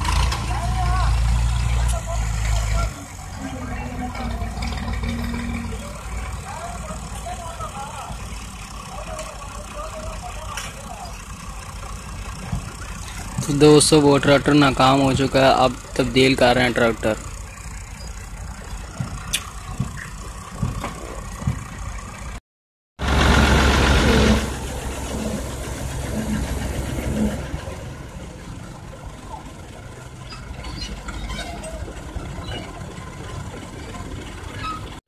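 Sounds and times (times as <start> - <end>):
tractor diesel engine running: 0.0 - 22.4, 23.0 - 35.0.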